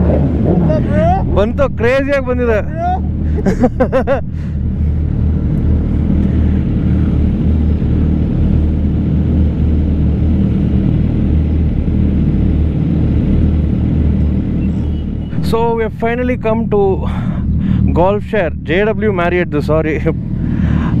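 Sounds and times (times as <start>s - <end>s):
motorcycle engine rumble: 0.0s - 21.0s.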